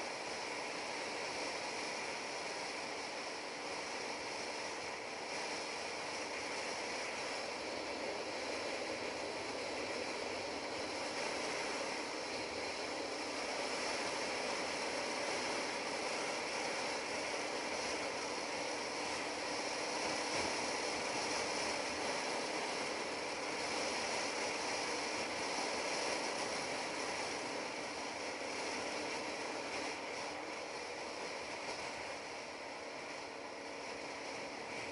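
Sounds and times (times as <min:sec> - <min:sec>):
wind rushing over camera: 0:00.0 - 0:34.9.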